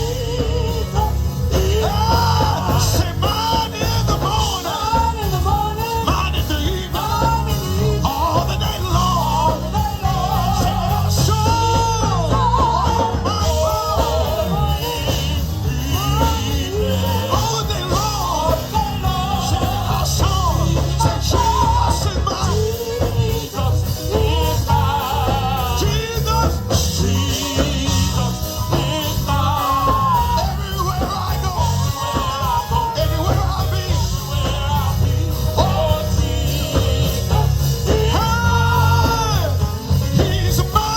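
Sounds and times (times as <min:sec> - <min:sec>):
gospel band playing: 0:00.0 - 0:40.9.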